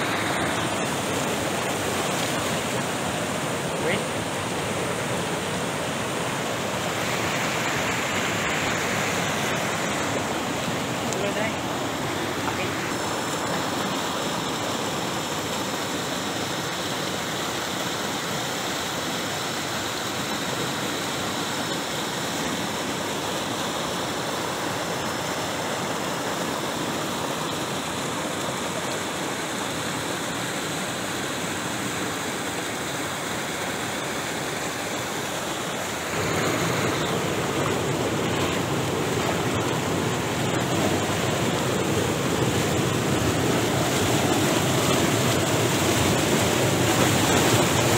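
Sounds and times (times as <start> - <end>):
river water rushing over rapids: 0.0 - 47.9.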